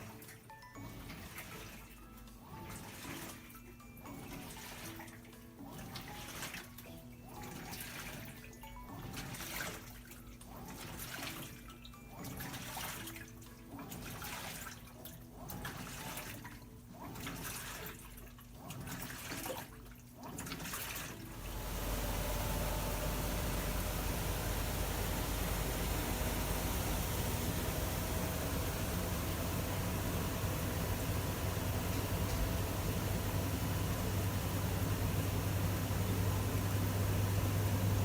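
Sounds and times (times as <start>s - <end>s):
washing machine water sloshing: 0.0s - 38.0s.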